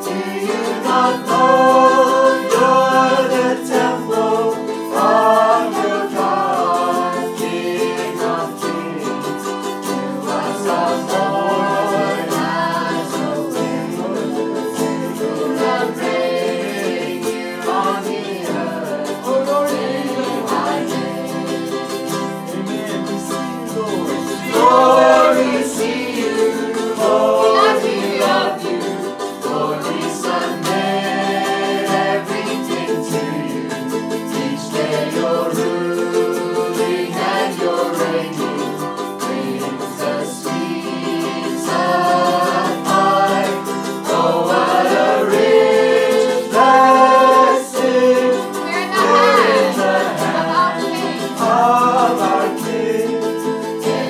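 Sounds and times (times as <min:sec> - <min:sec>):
acoustic guitar: 0:00.0 - 0:54.0
group singing worship song: 0:00.0 - 0:54.0
ukulele: 0:00.0 - 0:54.0.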